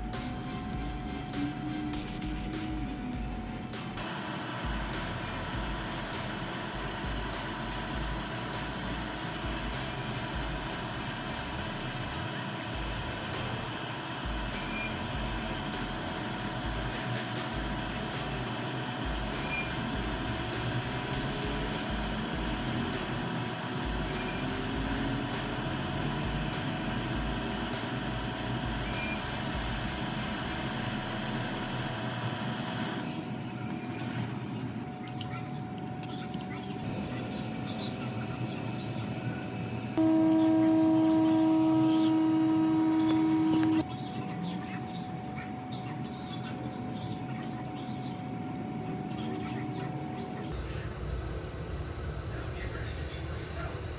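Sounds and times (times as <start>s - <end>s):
mechanical whir: 0.0s - 52.3s.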